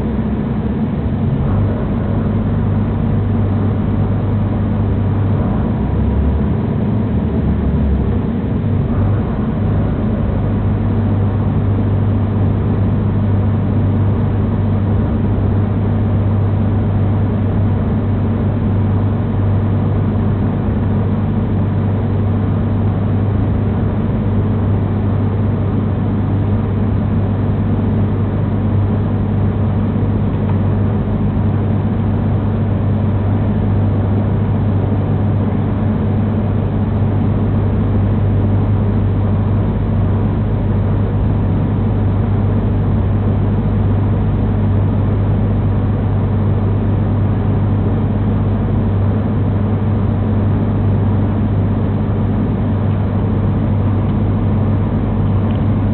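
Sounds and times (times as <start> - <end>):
strong low hum: 0.0 - 55.9
train drone from inside carriage: 0.0 - 55.9.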